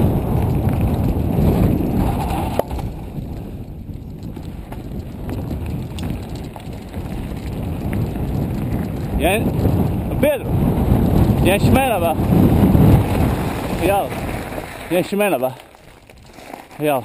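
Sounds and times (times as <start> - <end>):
wind buffeting microphone: 0.0 - 16.5
bike clicks and rattles: 0.0 - 17.0
tyres rumbling on trail: 0.0 - 17.0.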